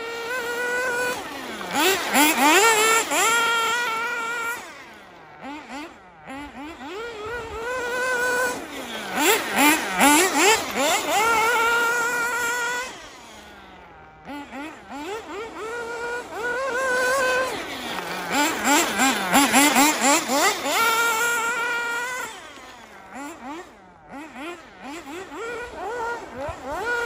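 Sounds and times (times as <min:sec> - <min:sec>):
nitro engine revving: 0:00.0 - 0:27.0.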